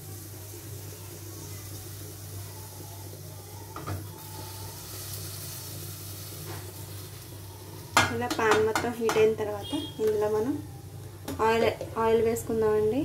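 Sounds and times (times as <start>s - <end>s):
stove hum and hiss: 0.0s - 13.0s.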